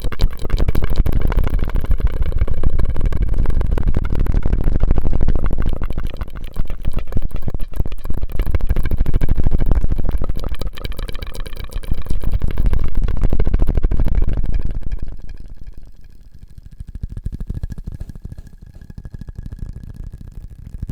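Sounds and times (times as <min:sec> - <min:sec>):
wet mouth clicks and pops: 0:00.0 - 0:18.9.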